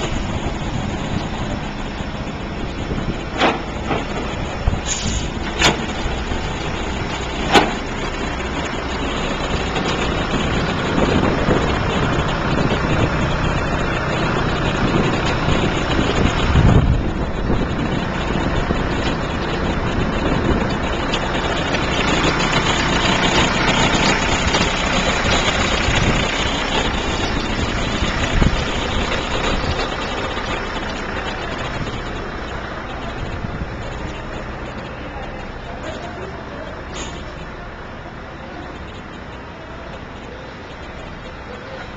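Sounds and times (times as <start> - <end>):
diesel engines running: 0.0 - 41.9.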